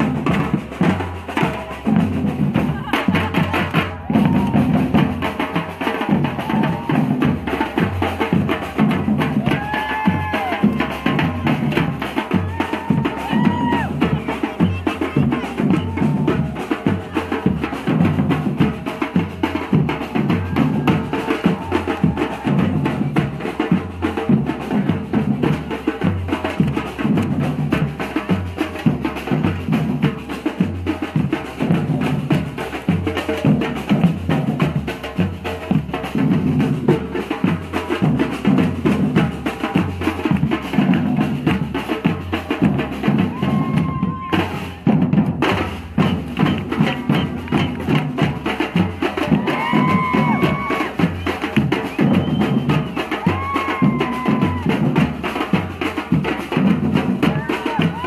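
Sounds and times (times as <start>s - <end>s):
samba drumming: 0.0s - 58.0s.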